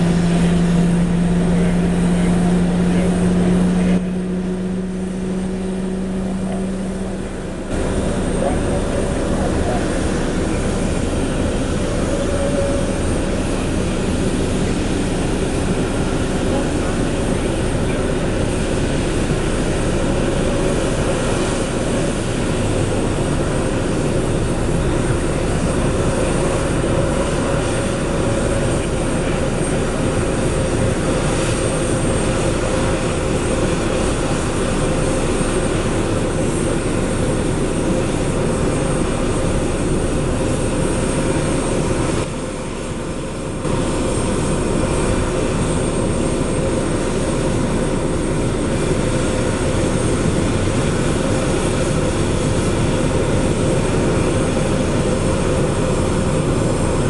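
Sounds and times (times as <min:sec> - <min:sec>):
jet turbines whining: 0:00.0 - 0:57.0.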